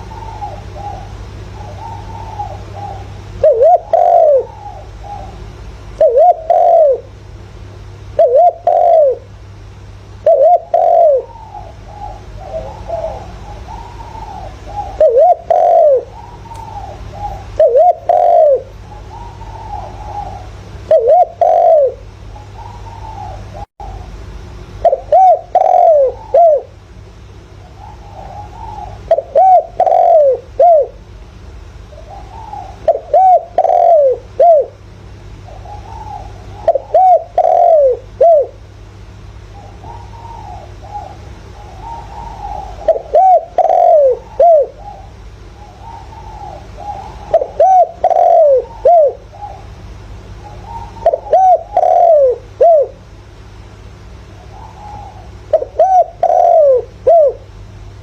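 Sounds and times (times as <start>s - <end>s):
dove cooing: 0.0s - 7.3s, 8.0s - 26.9s, 27.5s - 31.2s, 31.8s - 58.0s
steady low hum: 0.0s - 58.0s.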